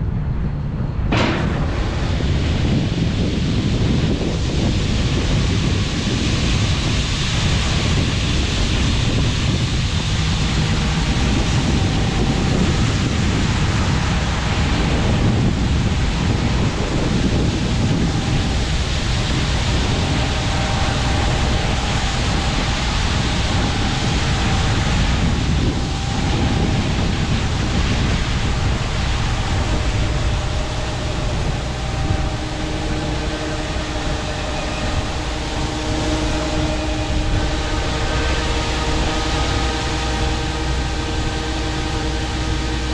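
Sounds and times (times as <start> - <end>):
faint whining tones: 0.0 - 42.9
harvest machinery running: 0.0 - 42.9
wind noise on microphone: 0.0 - 42.9.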